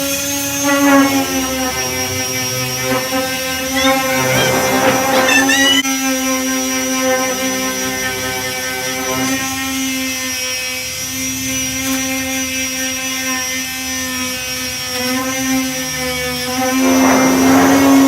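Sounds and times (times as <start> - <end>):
power sander whining: 0.0 - 18.0.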